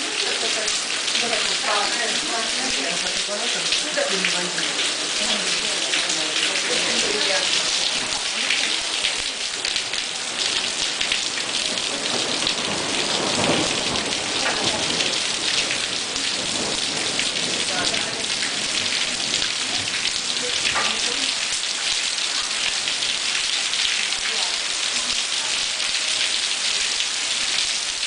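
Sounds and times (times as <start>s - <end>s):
heavy rain on hard surfaces: 0.0s - 28.0s.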